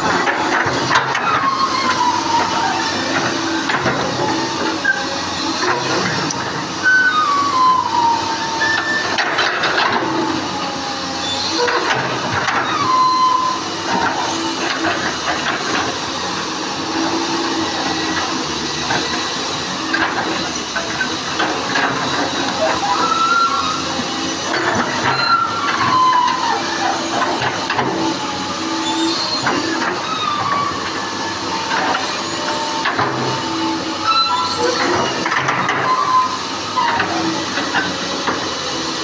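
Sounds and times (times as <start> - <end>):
heavy machine running: 0.0 - 39.0.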